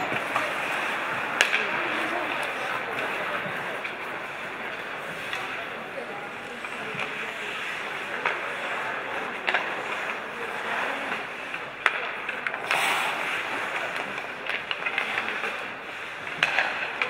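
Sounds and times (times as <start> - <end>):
hockey sticks and puck clacking: 0.0 - 17.0
skate blades scraping ice: 0.0 - 17.0.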